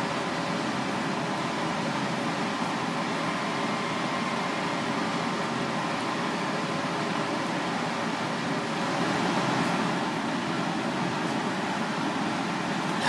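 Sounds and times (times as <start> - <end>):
ventilation noise: 0.0 - 13.0.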